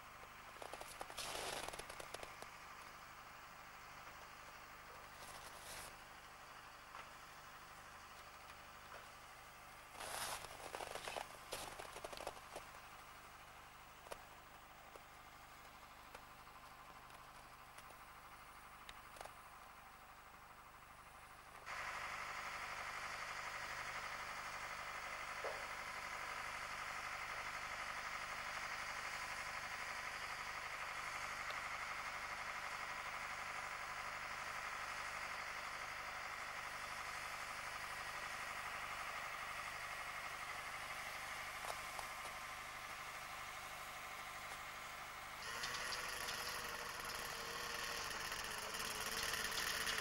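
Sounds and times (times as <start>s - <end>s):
vehicle engine running: 0.0s - 50.0s.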